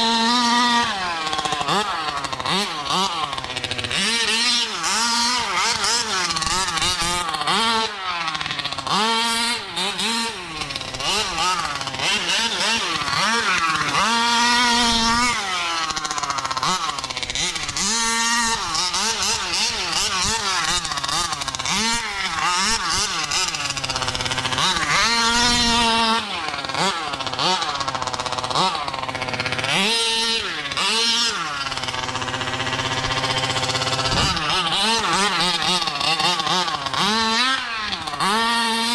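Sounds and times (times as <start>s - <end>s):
small two-stroke engine revving: 0.0s - 38.9s.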